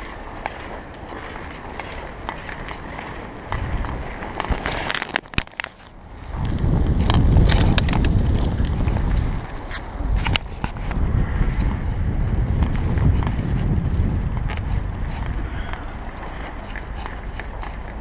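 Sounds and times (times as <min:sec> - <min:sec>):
bicycle tyres crunching through snow: 0:00.0 - 0:18.0
wind rumbling on microphone: 0:00.0 - 0:18.0.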